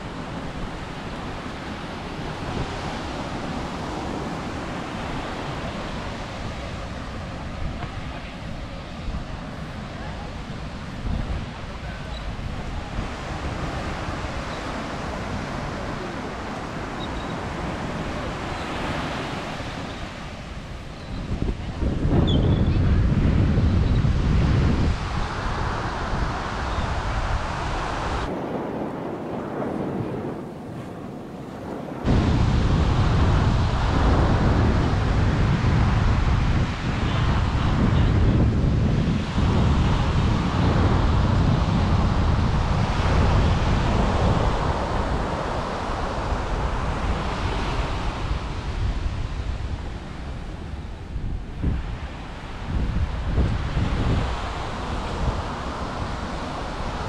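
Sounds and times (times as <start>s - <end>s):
surf washing on beach: 0.0s - 57.0s
wind buffeting microphone: 0.0s - 57.0s.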